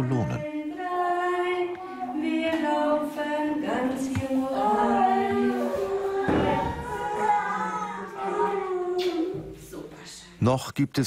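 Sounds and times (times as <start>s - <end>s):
women singing slow song: 0.0s - 10.0s.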